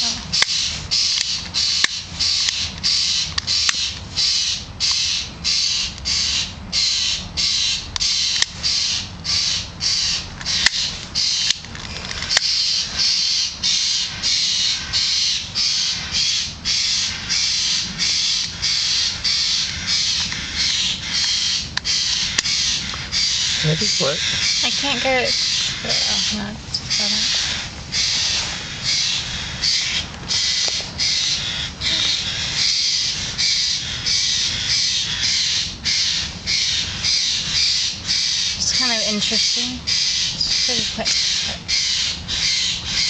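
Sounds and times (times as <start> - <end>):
bird harsh noisy calls: 0.0 - 43.0.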